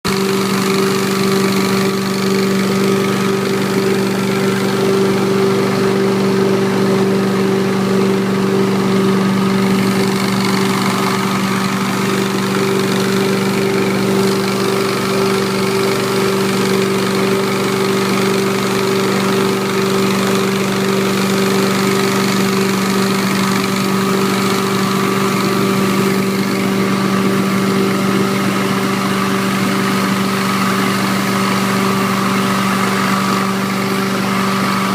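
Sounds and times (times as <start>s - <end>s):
carpet extractor humming: 0.0s - 34.9s.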